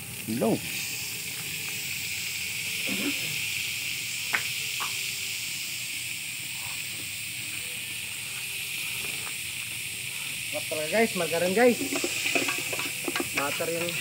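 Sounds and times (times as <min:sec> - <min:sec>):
margarine sizzling in a pot: 0:00.0 - 0:14.0.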